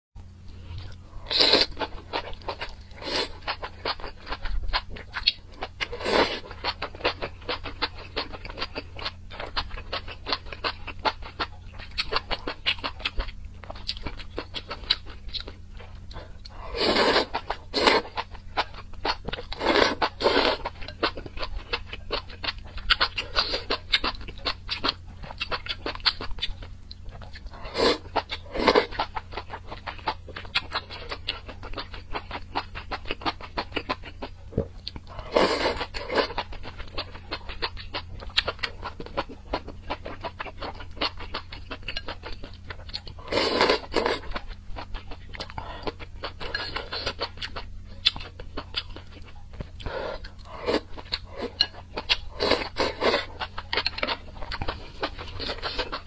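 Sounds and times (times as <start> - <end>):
wet crunchy chewing: 0.8 - 56.0.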